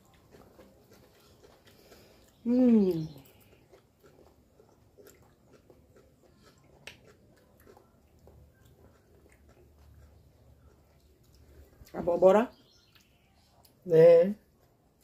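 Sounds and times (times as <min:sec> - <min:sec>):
faint chewing of food: 0:00.0 - 0:15.0.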